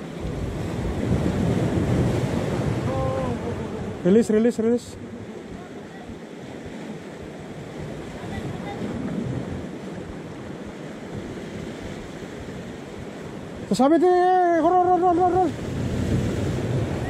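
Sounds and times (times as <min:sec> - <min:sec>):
sea surf breaking on rocks: 0:00.0 - 0:17.0.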